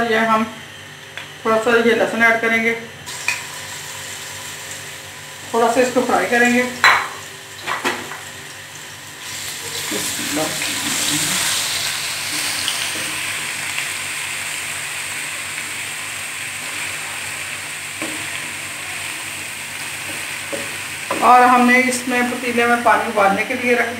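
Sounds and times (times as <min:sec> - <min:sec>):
garlic sizzling in hot oil: 0:03.1 - 0:23.8.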